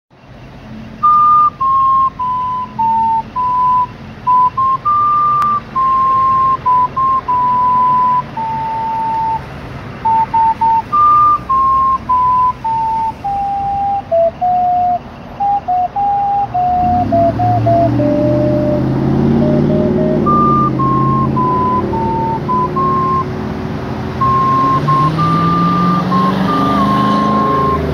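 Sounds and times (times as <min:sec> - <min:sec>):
passing vehicle rumble: 0:00.2 - 0:27.9
slow whistle-like tune: 0:01.0 - 0:09.4, 0:10.0 - 0:23.3, 0:24.2 - 0:27.9.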